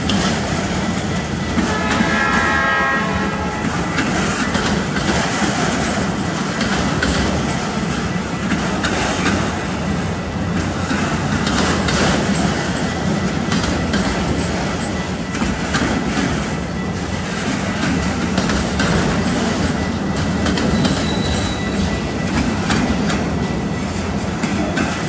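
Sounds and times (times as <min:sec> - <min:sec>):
steel wheels rumbling on rail: 0:00.0 - 0:25.0
wheels clacking over rail joints: 0:00.0 - 0:25.0.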